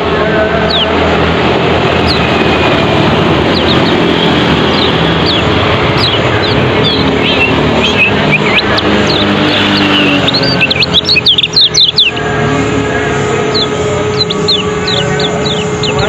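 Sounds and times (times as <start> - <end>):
songbird chirping: 0.0 - 16.0
steady rushing noise: 0.0 - 16.0.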